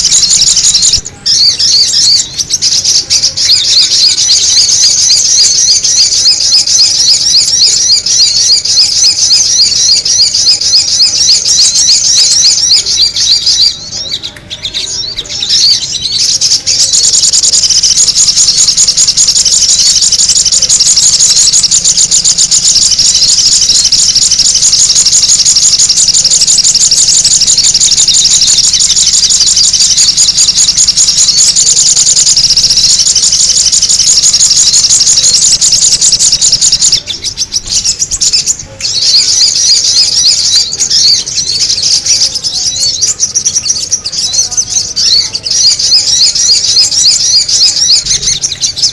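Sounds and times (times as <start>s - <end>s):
high-pitched bird chirping: 0.0s - 48.9s.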